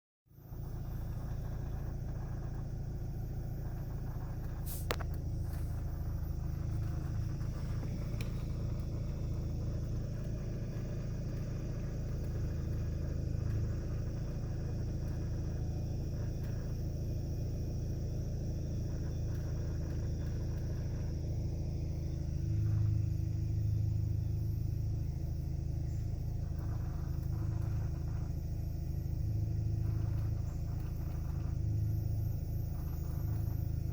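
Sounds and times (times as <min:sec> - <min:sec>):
car cabin low rumble: 0:00.3 - 0:33.9.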